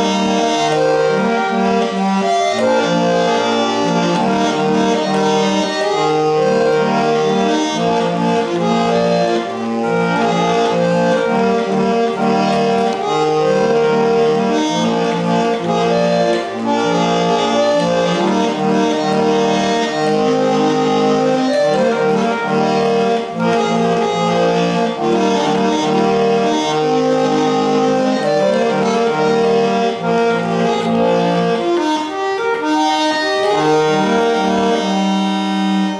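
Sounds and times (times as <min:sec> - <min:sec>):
barrel organ playing a tune: 0:00.0 - 0:35.9.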